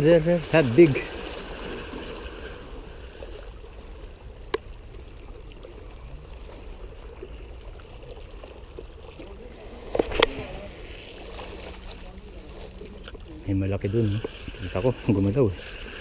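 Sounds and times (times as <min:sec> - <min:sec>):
sea water lapping on rocks: 0:00.0 - 0:16.0.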